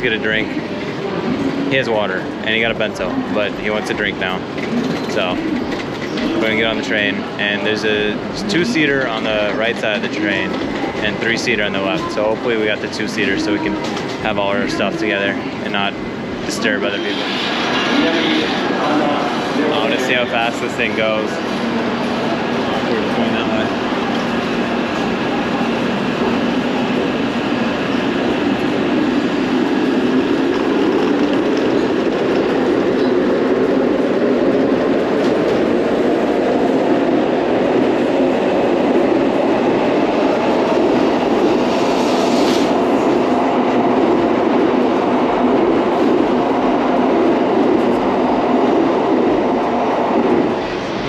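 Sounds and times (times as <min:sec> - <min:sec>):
train running past: 0:00.0 - 0:51.0.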